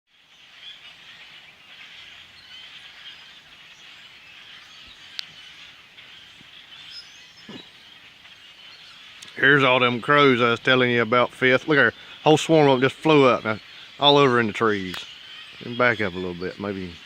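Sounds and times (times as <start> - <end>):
blackbirds chattering: 0.1 - 17.0.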